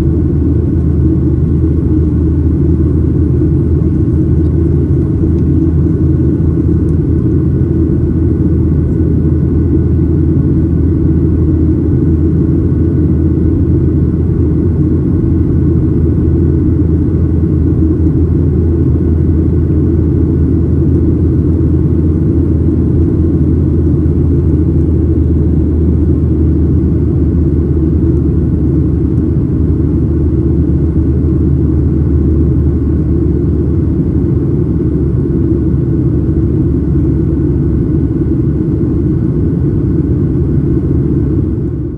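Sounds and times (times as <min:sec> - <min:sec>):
airplane cabin engine rumble: 0:00.0 - 0:41.9.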